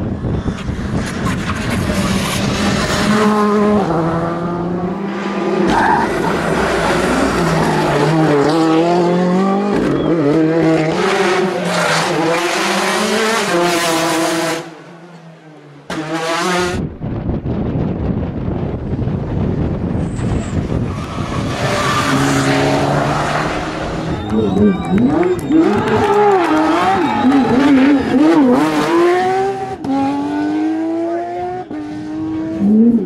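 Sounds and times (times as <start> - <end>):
rally car engine revving: 0.3 - 15.1, 15.8 - 16.9, 18.7 - 33.0.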